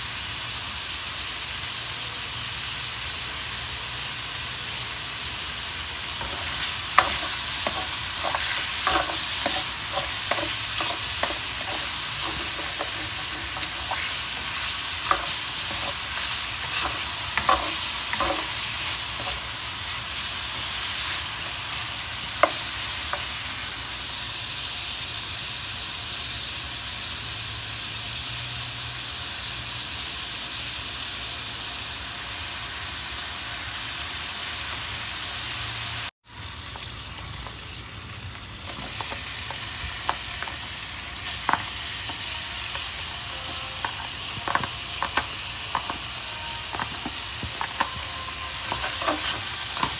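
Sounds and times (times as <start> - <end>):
food sizzling in frying pan: 0.0 - 49.9.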